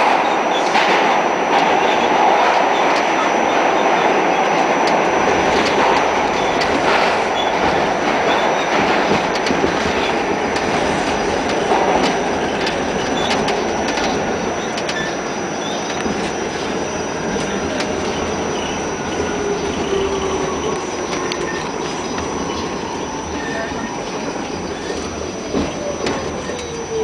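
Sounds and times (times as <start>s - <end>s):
subway train rumbling: 0.0s - 27.0s
wheels clicking over rail joints: 4.8s - 27.0s.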